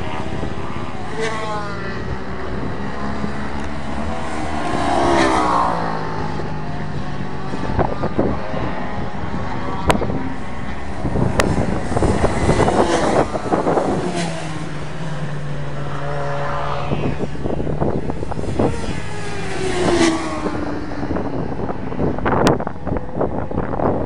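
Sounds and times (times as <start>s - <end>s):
racing motorbikes passing: 0.0s - 24.0s.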